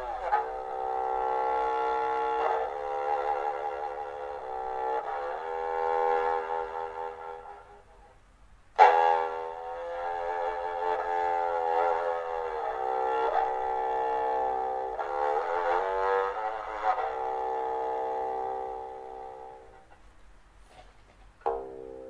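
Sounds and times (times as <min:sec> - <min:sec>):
bowed bass fiddle: 0:00.0 - 0:08.2, 0:08.8 - 0:20.1, 0:21.5 - 0:22.0.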